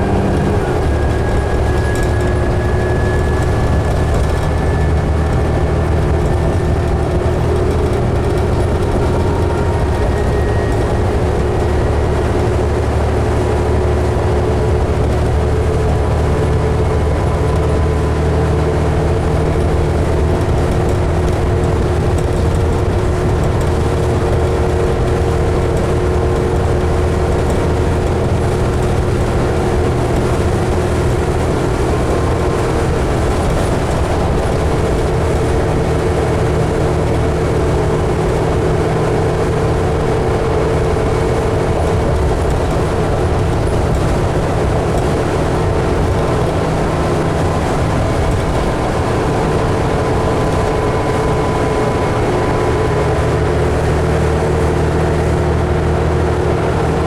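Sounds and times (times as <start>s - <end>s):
bus engine and road drone: 0.0s - 57.0s.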